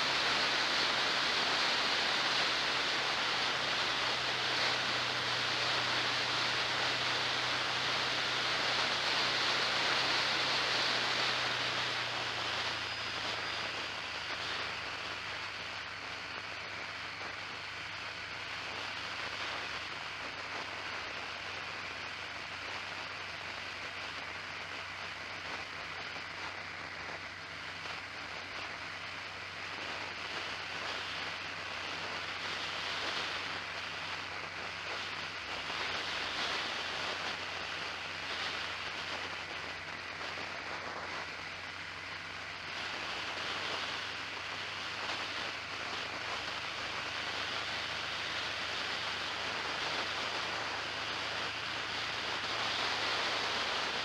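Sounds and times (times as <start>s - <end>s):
low steady hum: 0.0s - 54.0s
wind and road noise: 0.0s - 54.0s.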